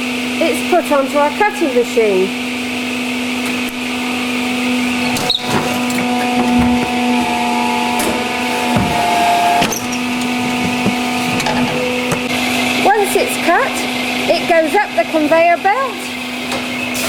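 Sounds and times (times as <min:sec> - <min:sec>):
cutting machine humming: 0:00.0 - 0:17.0
high cutting whine: 0:02.3 - 0:17.0.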